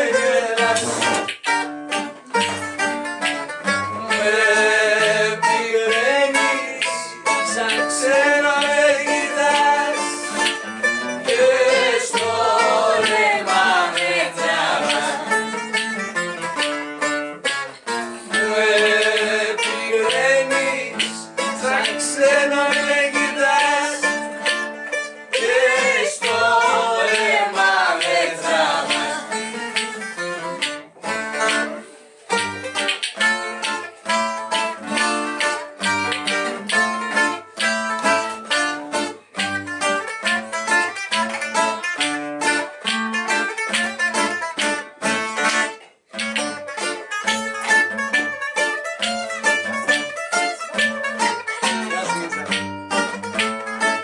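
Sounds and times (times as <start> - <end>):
bouzouki and acoustic guitar: 0.0 - 54.0.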